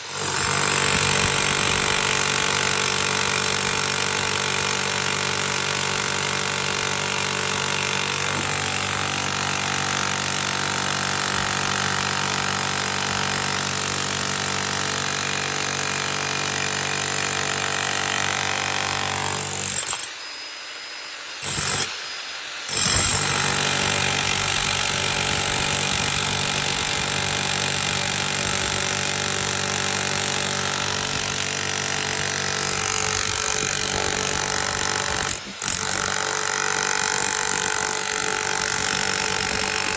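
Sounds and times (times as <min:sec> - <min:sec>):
jackhammer breaking concrete: 0:00.0 - 0:20.2, 0:21.3 - 0:22.0, 0:22.7 - 0:39.9.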